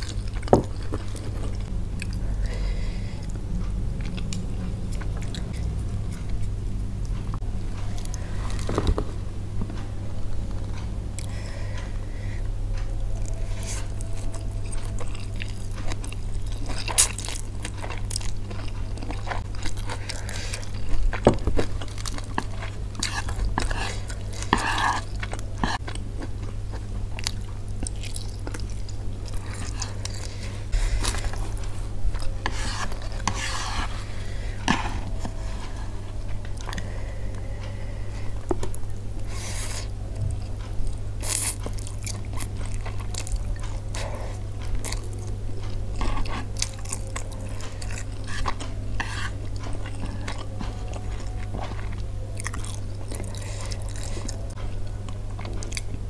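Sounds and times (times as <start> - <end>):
chewing noodles: 0.0 - 9.0, 12.8 - 56.0
steady low hum: 0.0 - 56.0.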